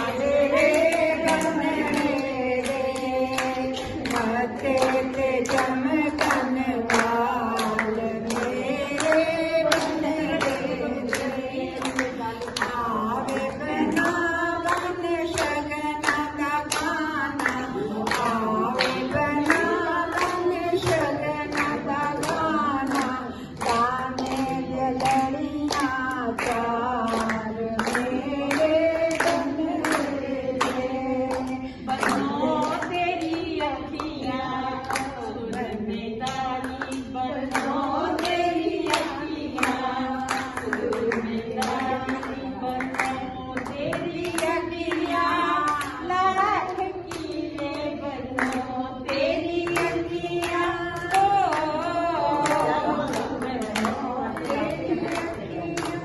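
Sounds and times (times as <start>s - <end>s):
group singing: 0.0s - 56.0s
hand-clapping: 0.0s - 56.0s.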